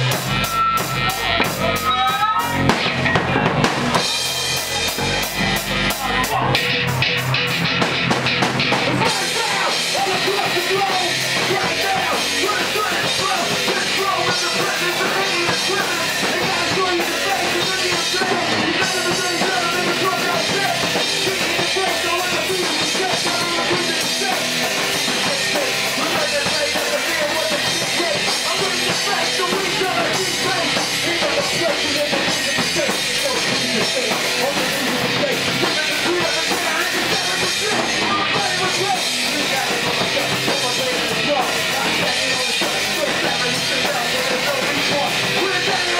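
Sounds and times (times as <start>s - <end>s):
bass guitar: 0.0s - 45.9s
drum kit with cymbal hits: 0.0s - 45.9s.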